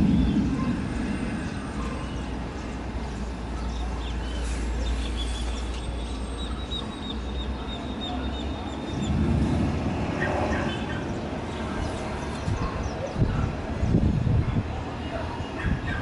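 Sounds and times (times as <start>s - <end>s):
gusty wind rumbling on microphone: 0.0s - 6.0s, 8.5s - 16.0s.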